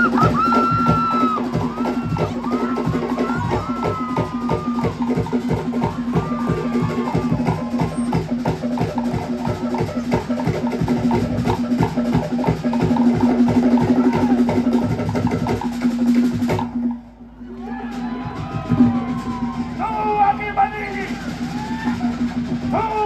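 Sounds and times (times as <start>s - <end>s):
bass drum: 0.0s - 17.1s, 17.9s - 23.0s.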